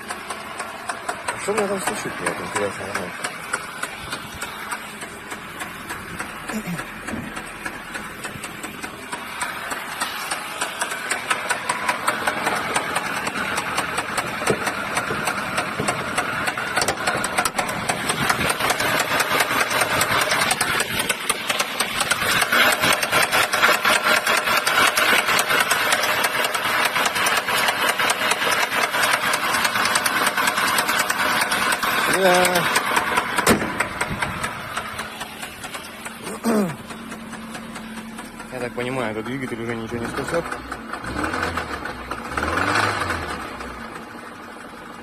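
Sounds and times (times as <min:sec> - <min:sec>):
engine metallic knocking: 0:00.0 - 0:45.0.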